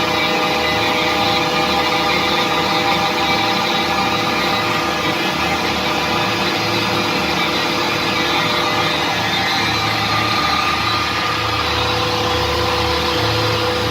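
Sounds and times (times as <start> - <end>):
grinding machine droning: 0.0 - 13.9.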